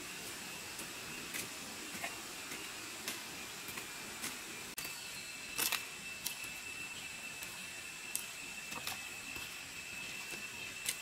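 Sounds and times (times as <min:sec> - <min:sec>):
steady high-pitched tone: 0:00.0 - 0:11.0.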